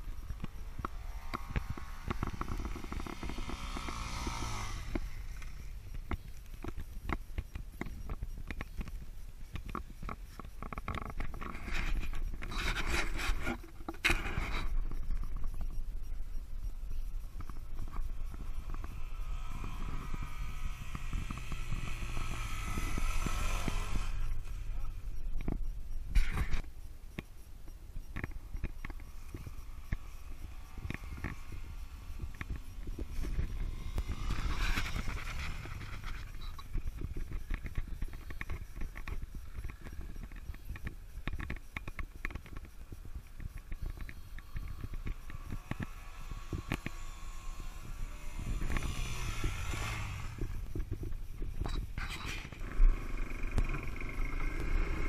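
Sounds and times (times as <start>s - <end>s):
dirt bike engine climbing hill: 0.0s - 55.0s.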